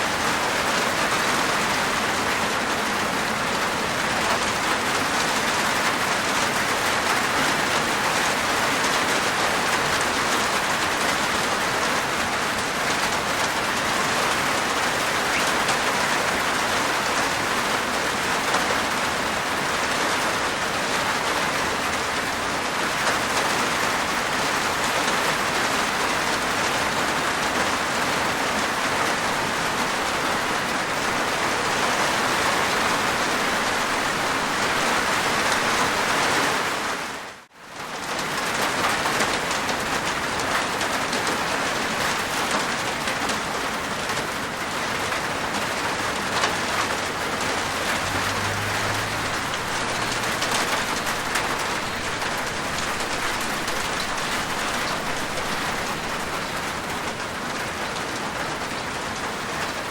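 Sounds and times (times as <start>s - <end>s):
rain on a rooftop: 0.0s - 59.9s.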